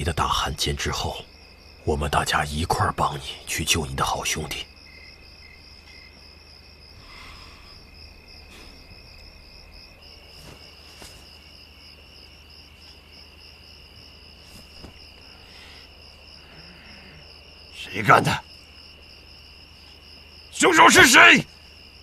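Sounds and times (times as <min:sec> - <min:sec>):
crickets chirping: 0:00.0 - 0:22.0
insect trill: 0:00.0 - 0:22.0.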